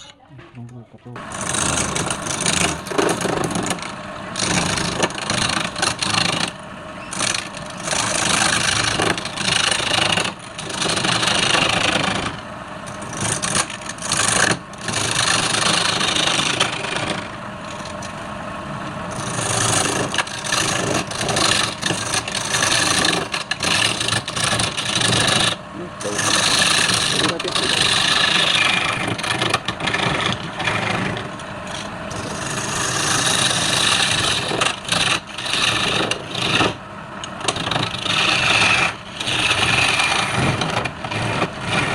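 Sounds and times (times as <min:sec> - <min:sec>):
lathe motor running: 0:01.2 - 0:41.9
lathe tool scraping wood: 0:01.2 - 0:41.9.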